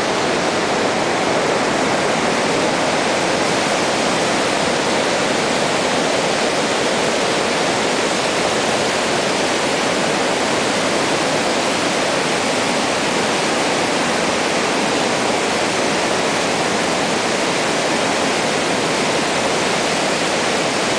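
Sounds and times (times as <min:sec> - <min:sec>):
river rapids roaring: 0:00.0 - 0:20.9.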